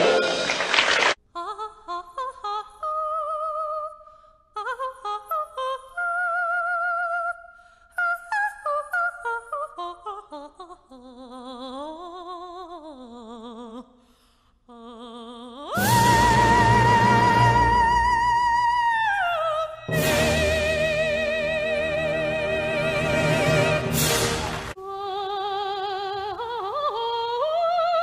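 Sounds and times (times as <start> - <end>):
woman singing opera: 1.4 - 13.9, 14.7 - 28.0.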